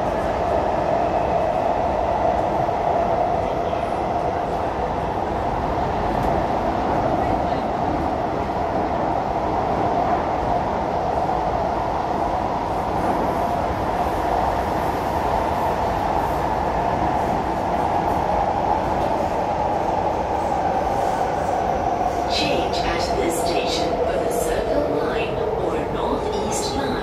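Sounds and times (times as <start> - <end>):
metro train rumble: 0.0 - 27.0.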